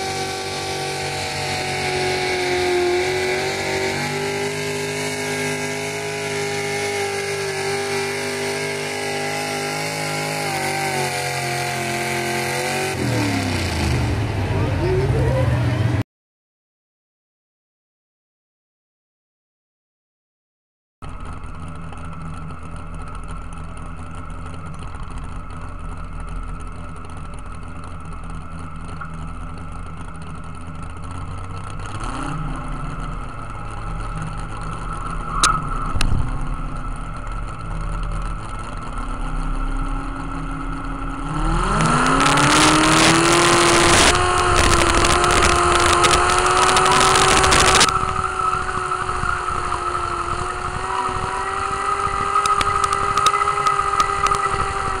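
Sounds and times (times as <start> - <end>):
tractor engine idling and revving: 0.0 - 16.0, 21.0 - 55.0.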